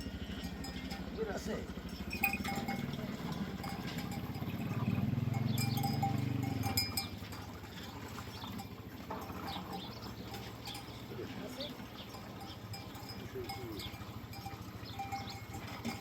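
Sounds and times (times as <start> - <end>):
sheep bells clinking: 0.0 - 16.0.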